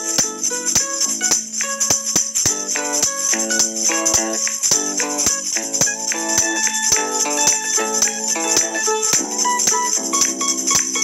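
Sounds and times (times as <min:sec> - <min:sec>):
music with quick steady beat: 0:00.0 - 0:11.0.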